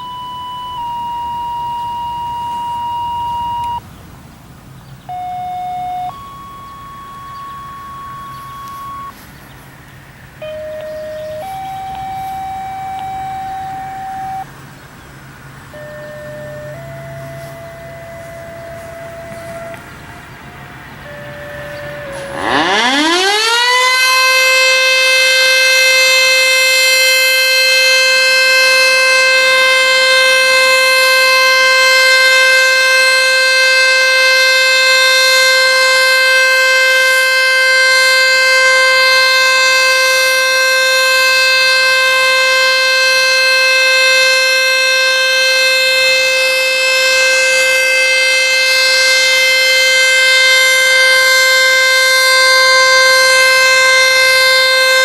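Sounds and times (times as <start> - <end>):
outdoor warning siren: 0.0 - 3.8, 5.0 - 9.2, 10.2 - 14.5, 15.5 - 55.0.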